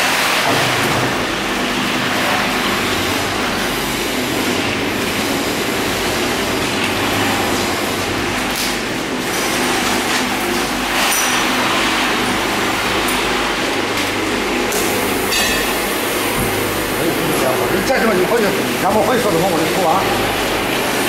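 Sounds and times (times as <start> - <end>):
roasting machine humming: 0.0 - 21.0.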